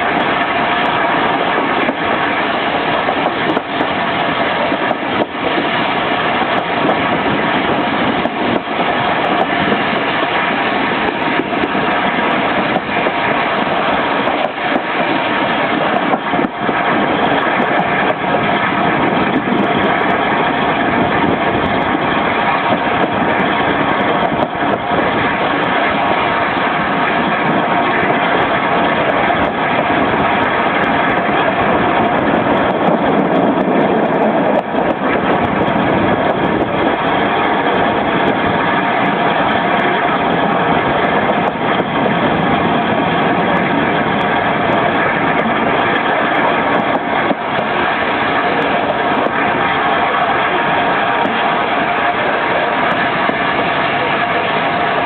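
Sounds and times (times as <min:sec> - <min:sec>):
train running noise: 0:00.0 - 0:55.0
wheels clicking on track: 0:00.0 - 0:55.0.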